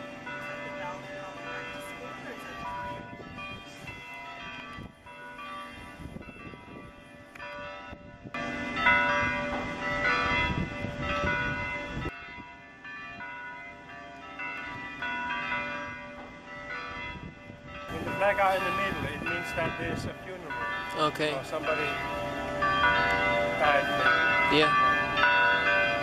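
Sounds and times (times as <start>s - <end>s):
church bells tolling: 0.0s - 26.0s.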